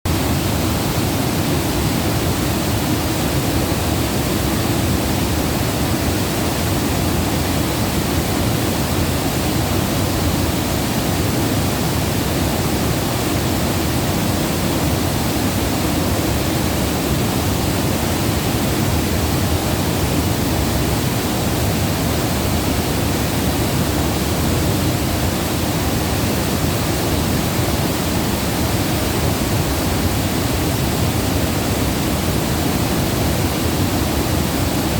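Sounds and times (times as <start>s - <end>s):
water rushing: 0.1s - 34.9s.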